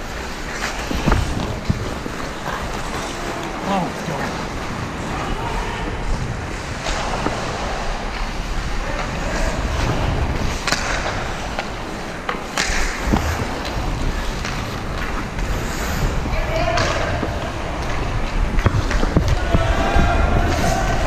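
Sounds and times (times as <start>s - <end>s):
skate blades scraping ice: 0.0s - 5.4s, 6.0s - 21.0s.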